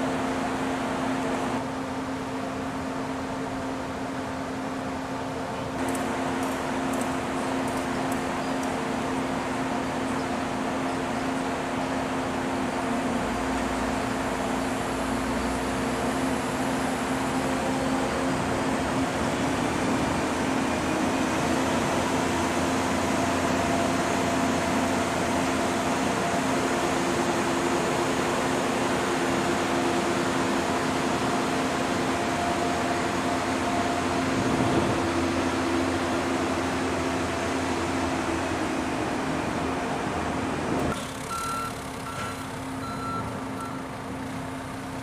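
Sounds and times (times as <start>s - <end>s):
machinery hum: 0.0s - 45.0s.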